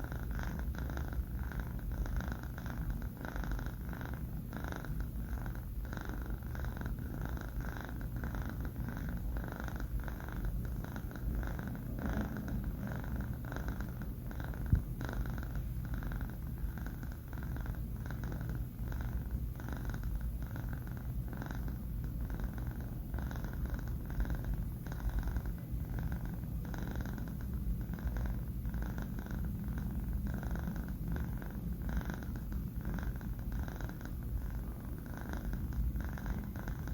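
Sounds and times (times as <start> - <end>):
kitten purring: 0.0 - 36.9.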